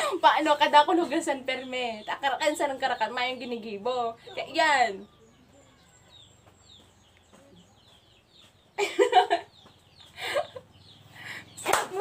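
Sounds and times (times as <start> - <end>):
high peeping chirps: 1.4 - 11.8.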